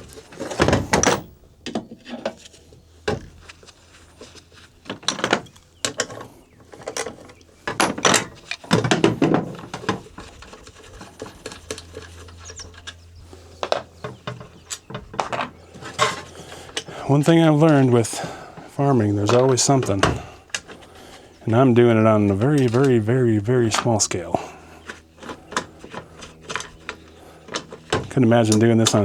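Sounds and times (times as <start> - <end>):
hand tools clanking on metal: 4.8 - 29.0.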